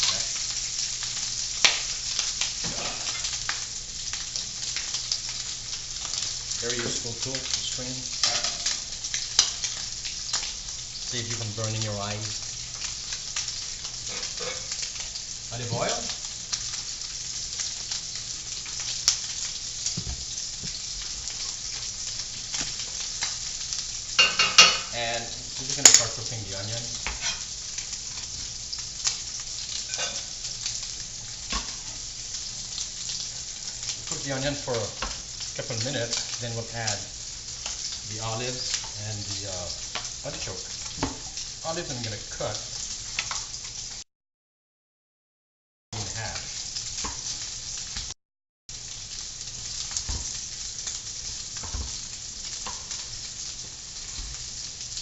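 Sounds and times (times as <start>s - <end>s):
food sizzling in oil: 0.0s - 44.0s, 46.0s - 55.0s.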